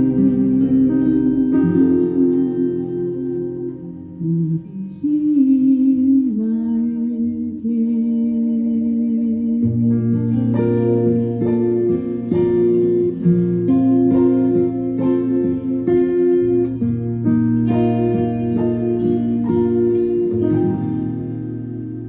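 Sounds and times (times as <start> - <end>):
plucked guitar notes: 0.0 - 5.6, 9.6 - 22.0.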